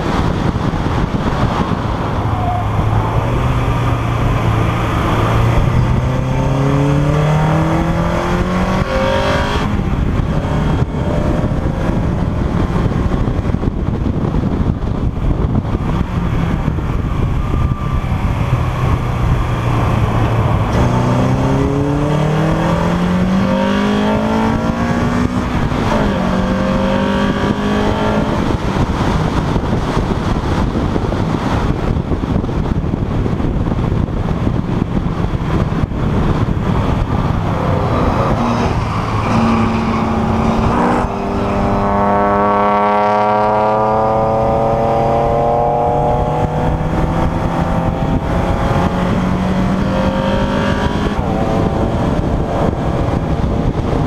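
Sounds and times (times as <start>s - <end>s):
race car engine under load: 0.0s - 54.0s
road and wind noise: 0.0s - 54.0s.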